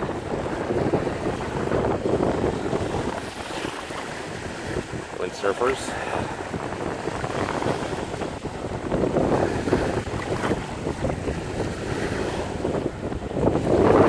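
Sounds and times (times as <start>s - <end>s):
choppy waves: 0.0s - 14.0s
wind buffeting microphone: 0.0s - 14.0s.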